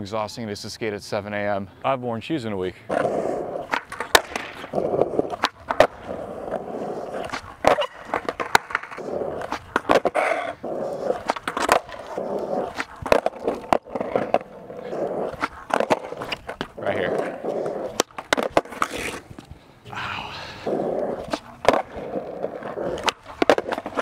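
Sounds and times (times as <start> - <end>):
skateboard wheels rumbling: 2.8 - 24.0
skateboard clacks: 2.9 - 19.5, 20.7 - 24.0.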